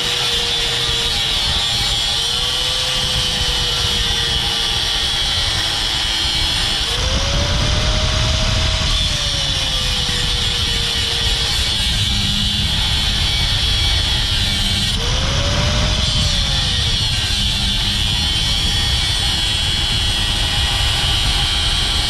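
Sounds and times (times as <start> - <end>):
power tool whining: 0.0 - 22.0.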